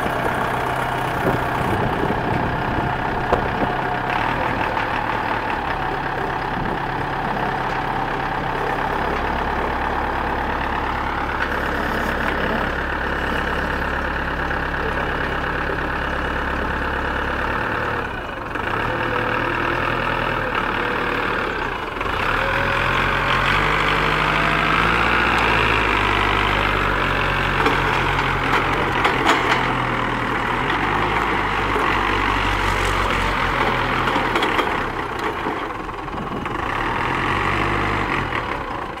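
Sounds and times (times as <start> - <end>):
forklift engine running: 0.0 - 39.0.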